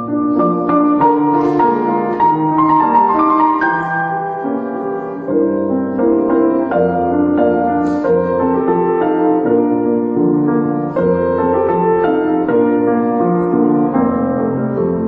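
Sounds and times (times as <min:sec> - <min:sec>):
slow classical piano piece: 0:00.0 - 0:15.0.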